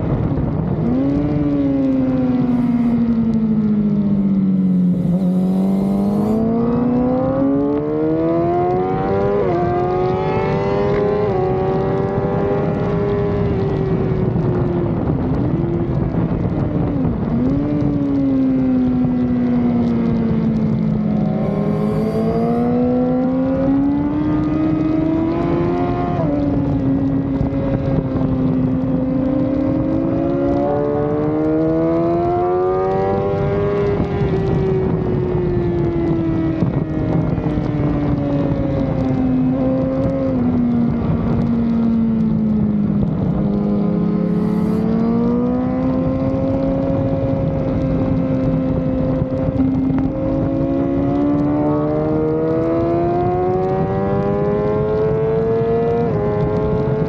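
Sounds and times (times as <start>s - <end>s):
motorcycle engine accelerating: 0.0s - 57.0s
wind rush: 0.0s - 57.0s.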